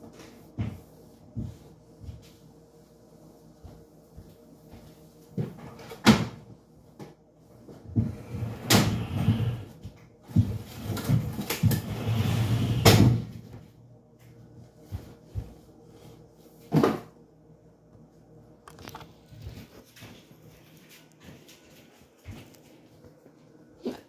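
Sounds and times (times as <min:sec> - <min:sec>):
rustling and shuffling: 0:00.0 - 0:24.0.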